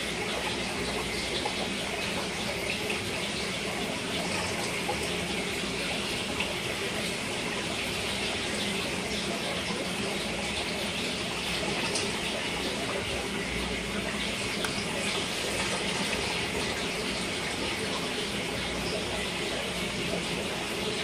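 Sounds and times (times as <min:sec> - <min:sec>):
water trickling into tank: 0:00.0 - 0:21.0.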